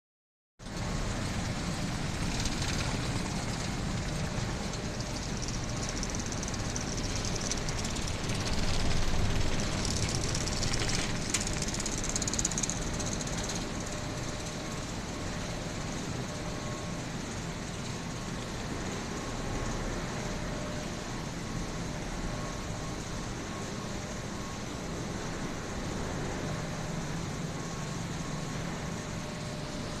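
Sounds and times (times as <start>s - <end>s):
factory machinery running: 0.6s - 30.0s.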